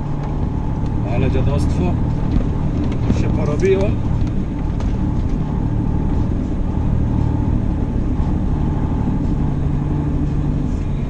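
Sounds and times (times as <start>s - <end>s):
road noise: 0.0s - 11.0s
truck diesel engine running: 0.0s - 11.0s.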